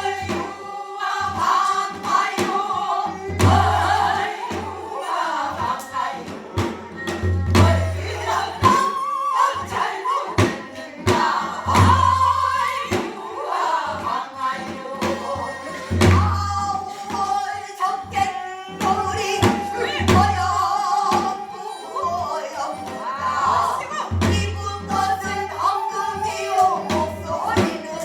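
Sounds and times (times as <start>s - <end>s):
folk singing with ornamented voice: 0.0s - 28.0s
percussion strokes: 0.0s - 28.0s.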